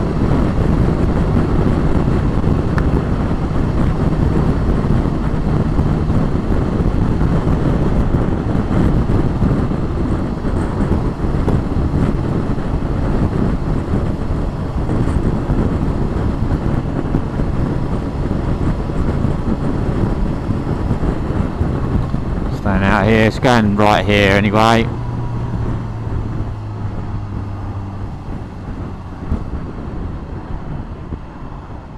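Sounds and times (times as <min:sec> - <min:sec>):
motorcycle engine and road noise: 0:00.0 - 0:31.9
wind rushing over microphone: 0:00.0 - 0:31.9.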